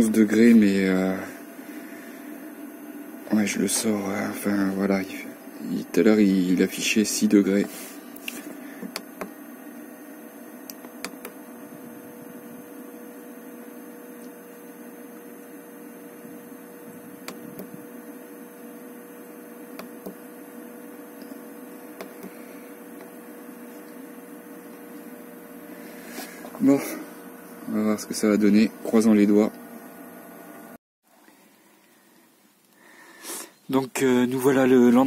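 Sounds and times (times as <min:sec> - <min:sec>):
heater blower humming: 0:00.0 - 0:30.8.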